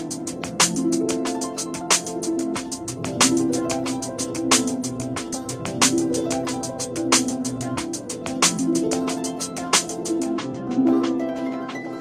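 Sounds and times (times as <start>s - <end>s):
ticking percussion: 0.0s - 12.0s.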